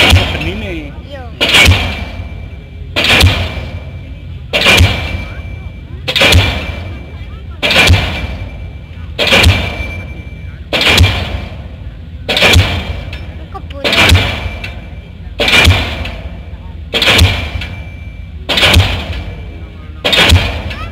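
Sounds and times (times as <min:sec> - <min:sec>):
pile hammer blows with metallic ring: 0:00.0 - 0:20.9.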